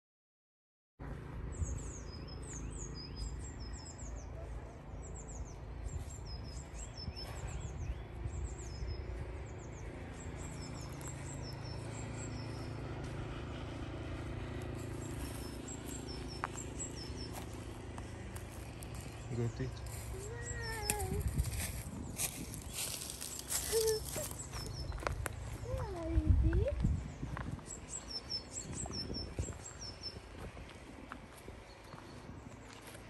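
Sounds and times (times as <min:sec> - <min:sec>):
low background rumble: 0:01.0 - 0:33.0
songbirds singing: 0:01.0 - 0:33.0.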